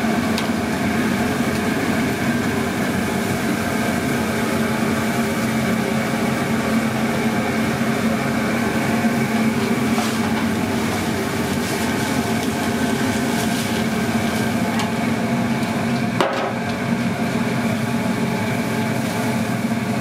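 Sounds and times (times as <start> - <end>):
kitchen equipment humming: 0.0 - 20.0.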